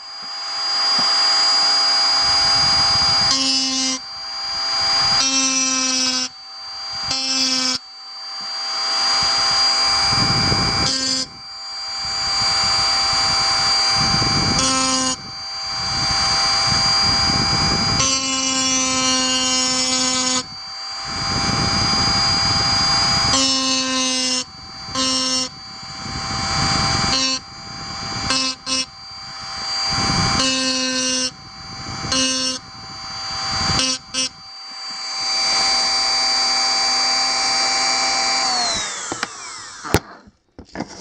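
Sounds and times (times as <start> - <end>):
burr engraving metal: 0.0 - 41.0
rotary tool whining: 0.0 - 41.0.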